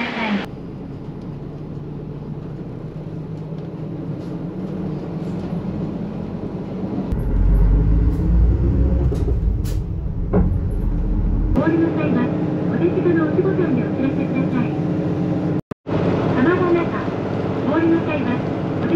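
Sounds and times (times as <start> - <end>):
bus engine hum: 0.0 - 18.9.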